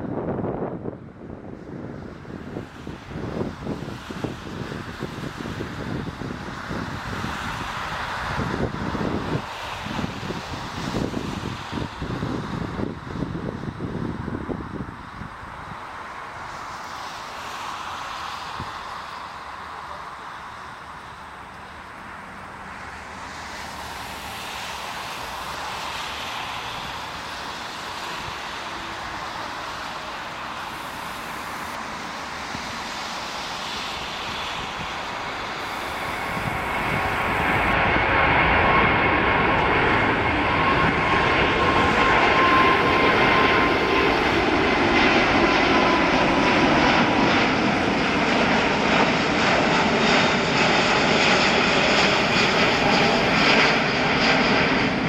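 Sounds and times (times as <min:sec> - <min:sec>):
jet engines roaring with whine: 0:00.0 - 0:55.0.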